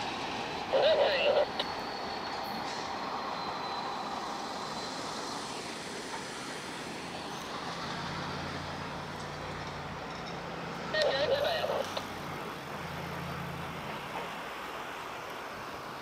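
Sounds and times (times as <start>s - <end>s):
vehicles driving over railroad crossing: 0.0s - 16.0s.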